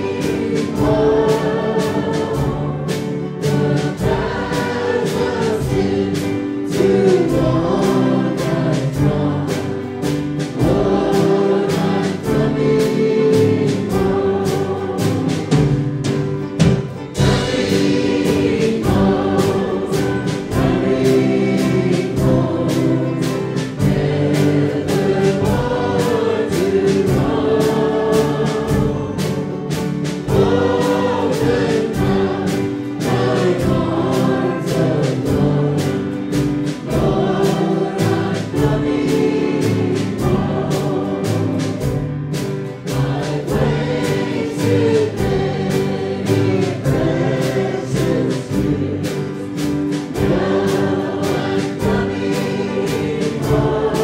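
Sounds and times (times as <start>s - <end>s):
keyboard: 0.0s - 54.0s
upright bass: 0.0s - 54.0s
vocal group singing in harmony: 0.0s - 54.0s.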